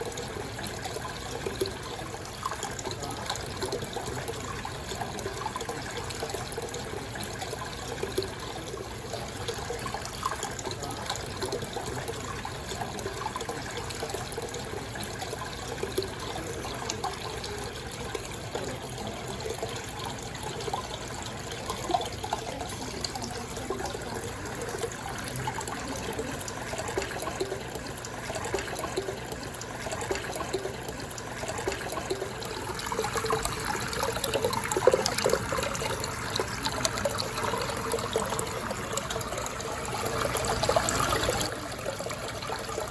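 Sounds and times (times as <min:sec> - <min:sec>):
aquarium water trickling and bubbling: 0:00.0 - 0:42.9.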